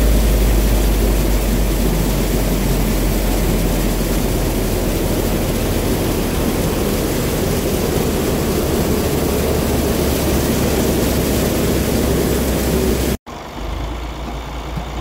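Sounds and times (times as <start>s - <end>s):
low hum: 0.0s - 13.2s
threshing machine din: 0.0s - 13.2s
quiet engine running: 0.0s - 15.0s.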